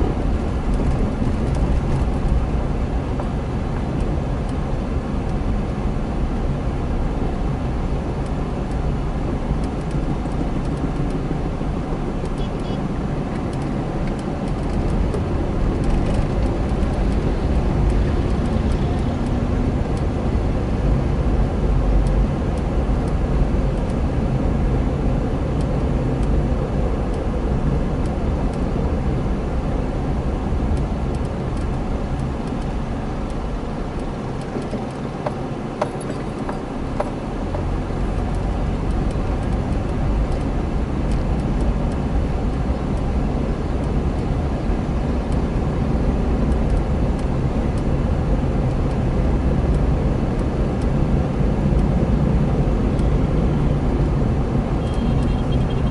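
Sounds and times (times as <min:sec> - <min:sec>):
car engine and road noise: 0:00.0 - 0:55.9.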